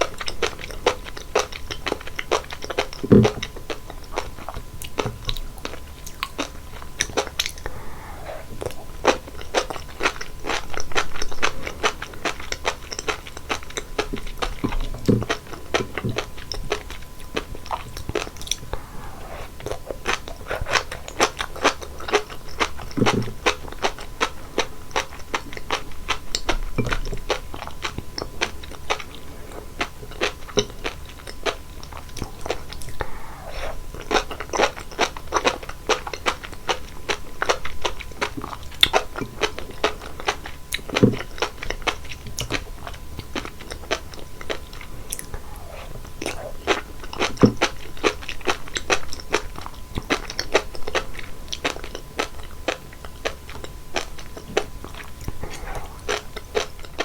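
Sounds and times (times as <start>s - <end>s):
chewing crisp seaweed beads: 0.0s - 57.0s.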